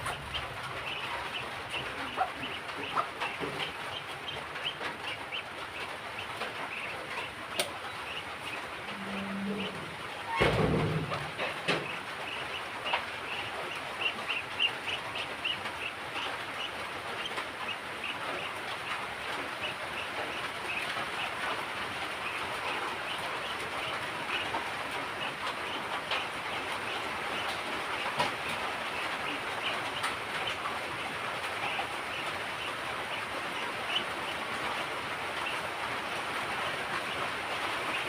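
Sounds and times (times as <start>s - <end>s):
ducks dabbling at food: 0.0s - 38.0s.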